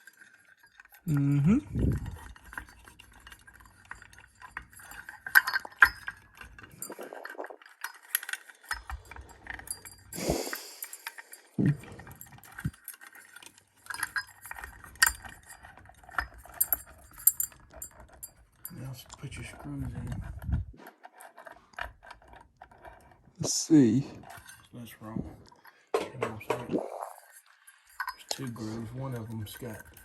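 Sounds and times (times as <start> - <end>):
small metal parts clinking: 0.0 - 30.0.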